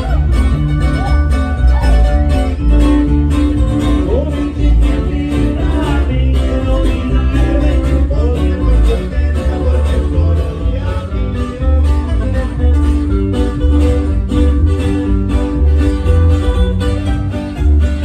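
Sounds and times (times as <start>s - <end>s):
ranchero music with heavy bass: 0.0s - 18.0s.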